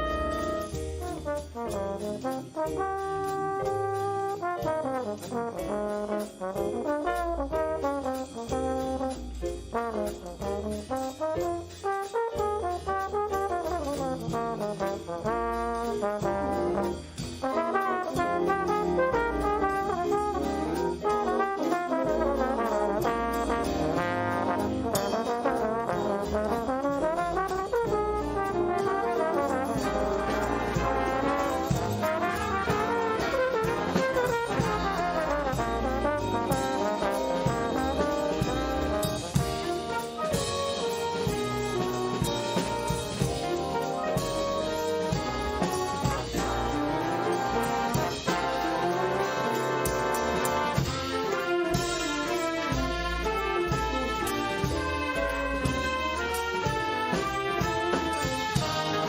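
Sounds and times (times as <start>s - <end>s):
brass ensemble playing: 0.0s - 59.0s.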